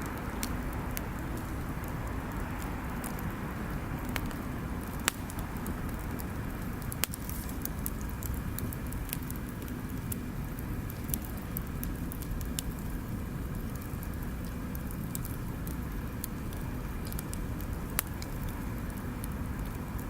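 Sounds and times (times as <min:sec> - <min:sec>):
bonfire crackling and popping: 0:00.0 - 0:20.0
bonfire low rumble: 0:00.0 - 0:20.0.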